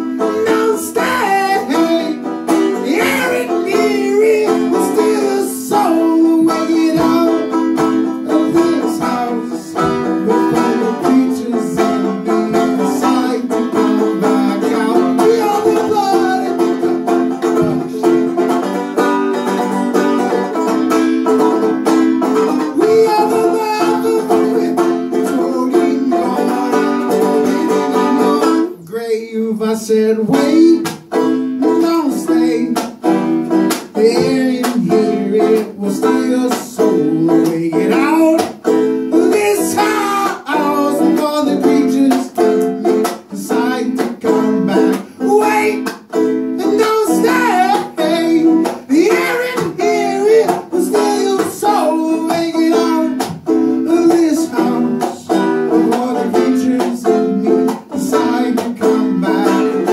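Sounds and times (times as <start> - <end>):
banjo picking: 0.0 - 59.9.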